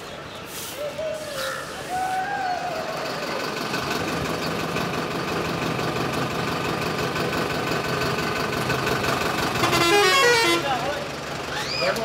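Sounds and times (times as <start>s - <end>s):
traffic noise: 0.0s - 12.0s
vehicle engine idling: 1.5s - 12.0s.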